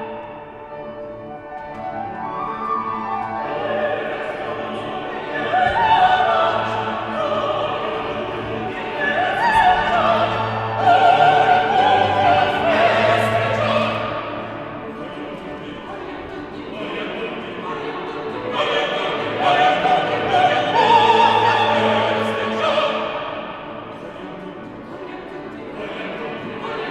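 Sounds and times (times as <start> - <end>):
classical accompaniment: 0.0 - 26.9
operatic singing with vibrato: 1.8 - 26.9.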